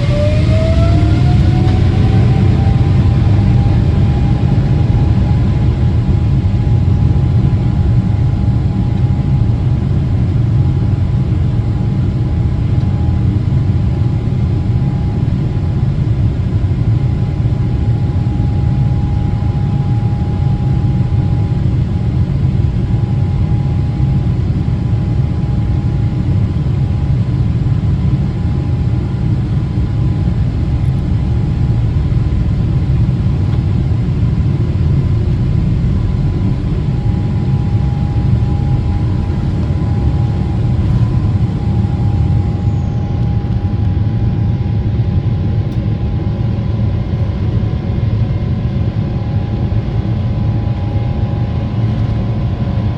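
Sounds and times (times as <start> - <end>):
faint steady whine: 0.0 - 52.9
jet engines rumbling: 0.0 - 52.9.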